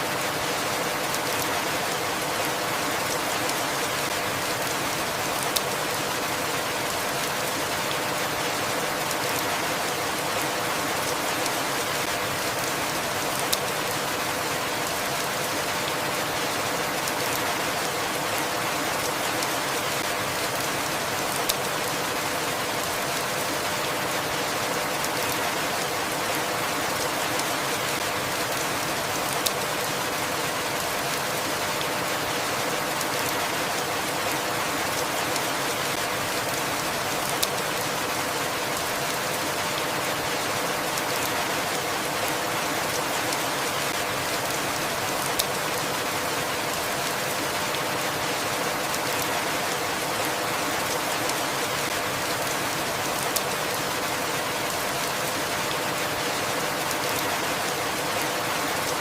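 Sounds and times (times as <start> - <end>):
rain patter: 0.0 - 59.0.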